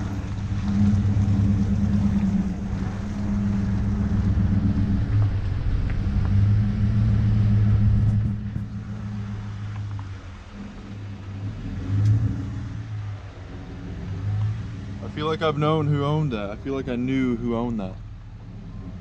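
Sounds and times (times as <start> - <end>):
truck engine droning: 0.0 - 19.0
tyres rolling on gravel: 0.0 - 19.0.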